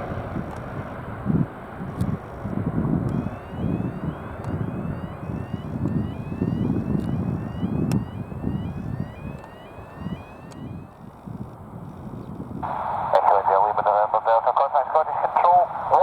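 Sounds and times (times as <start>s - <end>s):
wind buffeting microphone: 0.0s - 14.3s
jet engines rumbling: 0.0s - 16.0s.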